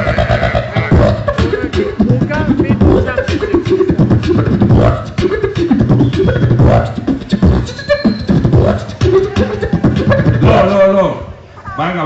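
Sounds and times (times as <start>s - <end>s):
person beatboxing into microphone: 0.0s - 10.8s.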